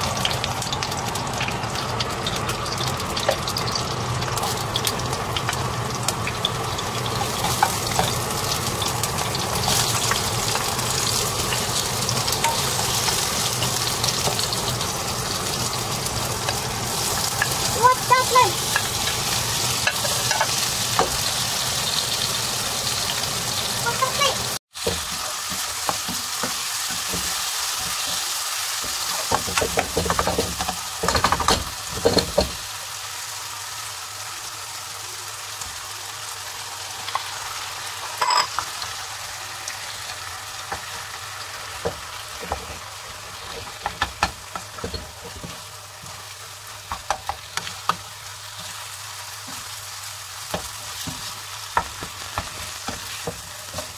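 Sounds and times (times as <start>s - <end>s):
vegetables sizzling in a frying pan: 0.0s - 53.9s.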